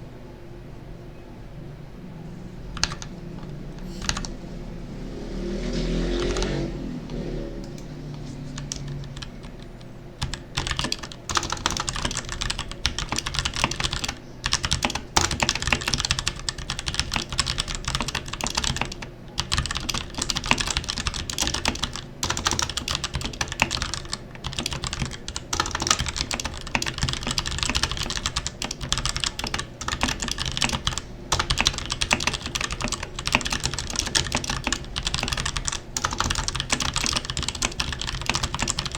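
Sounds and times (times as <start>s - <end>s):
mechanical keyboard typing: 2.8s - 4.4s, 6.0s - 38.9s.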